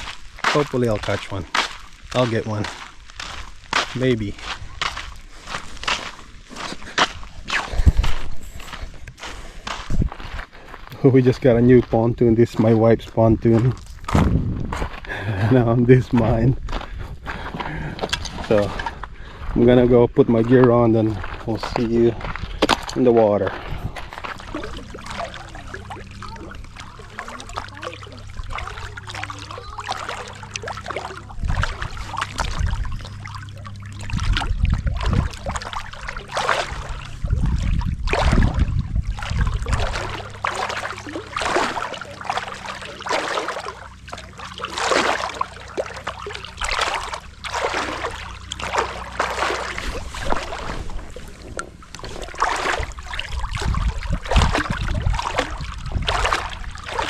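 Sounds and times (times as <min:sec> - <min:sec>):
paddle strokes splashing water: 0:00.0 - 0:10.6, 0:20.3 - 0:57.0
low steady hum: 0:00.0 - 0:57.0.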